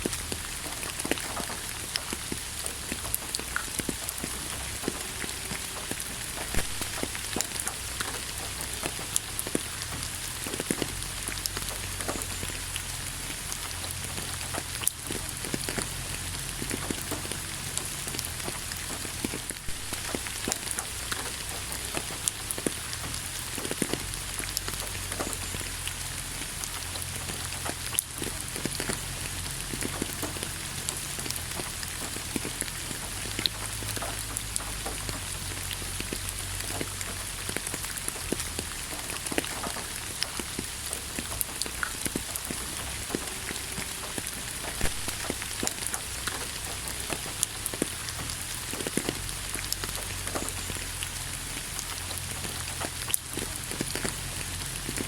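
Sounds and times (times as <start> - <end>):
low steady rumble: 0.0 - 55.0
rain drop ticks: 0.0 - 55.0
steady rain falling: 0.0 - 55.0.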